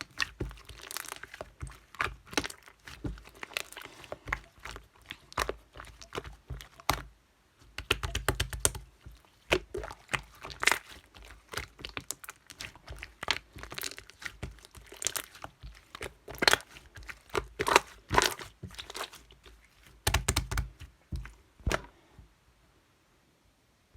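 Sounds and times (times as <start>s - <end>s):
crinkling and clicking handling noises: 0.0s - 22.0s.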